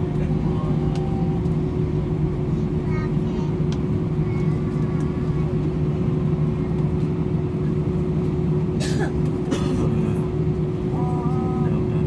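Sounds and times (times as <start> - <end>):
constant hum: 0.0 - 12.0
vehicle cabin rumble: 0.0 - 12.0.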